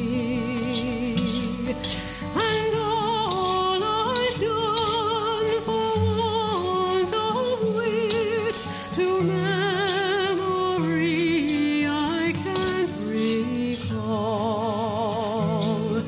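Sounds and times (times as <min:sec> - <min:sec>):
music with long held notes: 0:00.0 - 0:16.0
rice sizzling in a wok: 0:00.0 - 0:16.0
spatula scraping a wok: 0:00.0 - 0:16.0.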